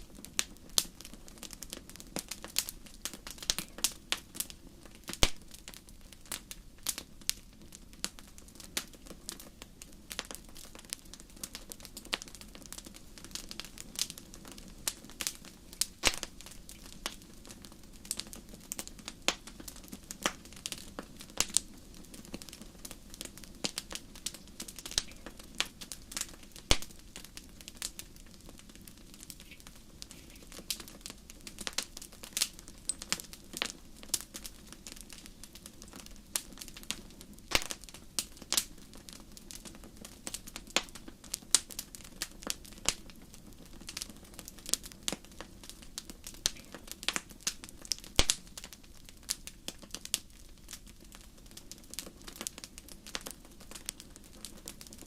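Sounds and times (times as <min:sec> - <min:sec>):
low fire hiss: 0:00.0 - 0:55.0
wood fire crackling: 0:00.0 - 0:55.0.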